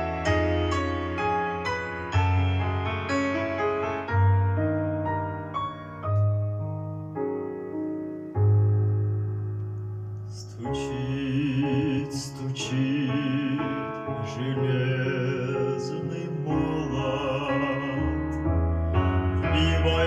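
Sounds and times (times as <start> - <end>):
slow gentle piano melody: 0.0 - 20.0.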